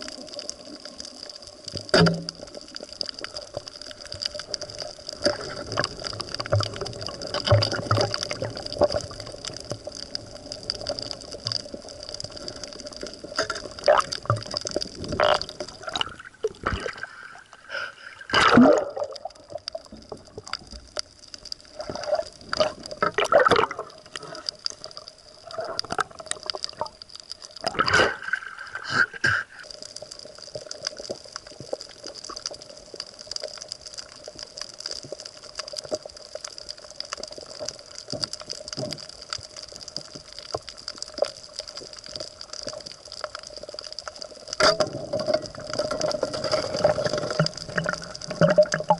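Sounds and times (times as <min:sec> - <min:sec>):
water gurgling and sloshing: 0:00.0 - 0:29.7, 0:35.5 - 0:48.9.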